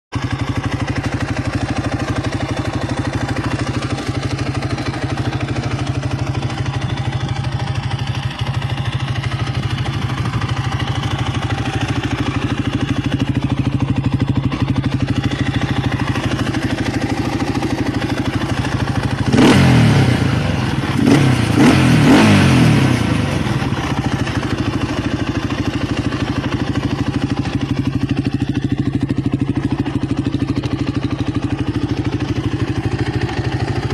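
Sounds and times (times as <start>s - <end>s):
atv engine idling and revving: 0.1s - 33.9s.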